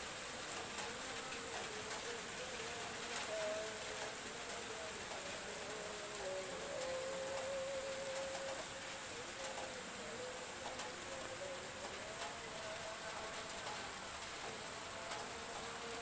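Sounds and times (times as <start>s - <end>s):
light rain hissing: 0.0s - 16.0s
raindrop ticks: 0.0s - 16.0s.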